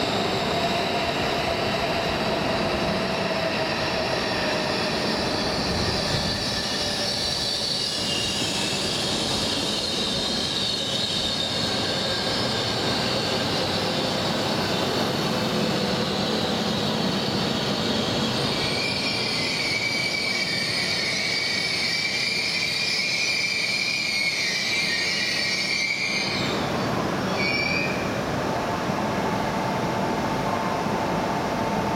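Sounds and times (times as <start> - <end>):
high brake squeal: 0.0 - 28.3
standing train humming: 0.0 - 31.9
train braking: 0.0 - 31.9.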